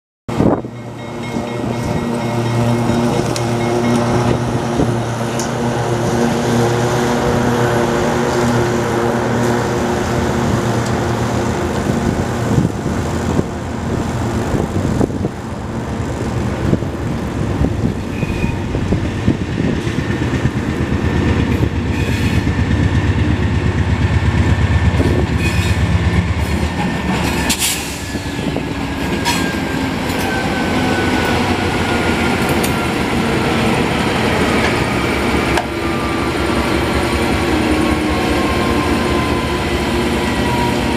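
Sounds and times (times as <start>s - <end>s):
locomotive engine rumbling: 0.3s - 40.9s
wheels rattling on rail: 0.3s - 40.9s.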